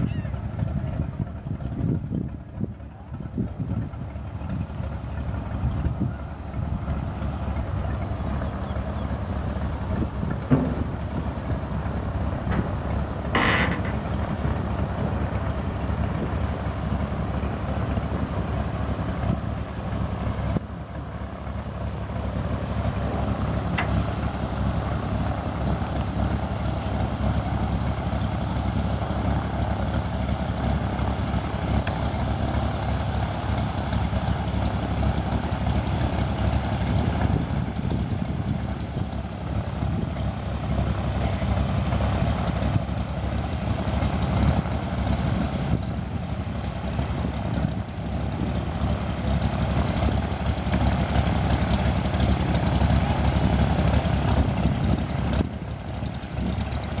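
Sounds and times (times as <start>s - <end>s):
floatplane engine and propeller droning: 0.0s - 57.0s.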